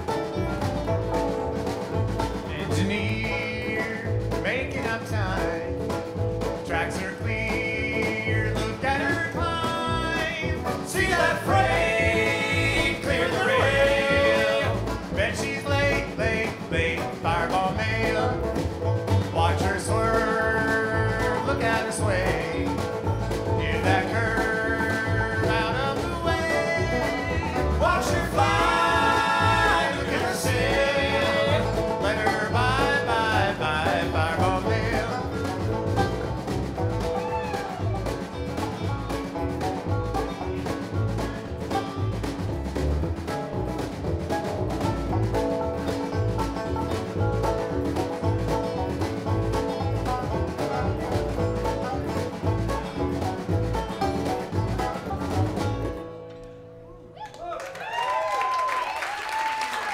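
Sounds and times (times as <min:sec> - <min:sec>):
bluegrass band playing: 0:00.0 - 0:59.9.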